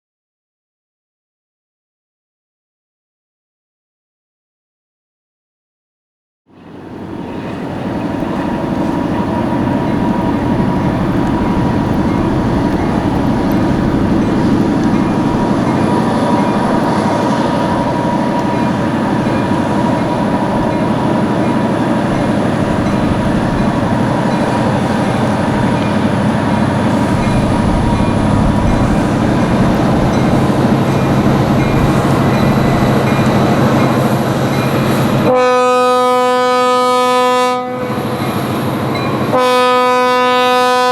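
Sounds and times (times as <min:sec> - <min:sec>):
diesel locomotive drone: 0:06.5 - 0:40.9.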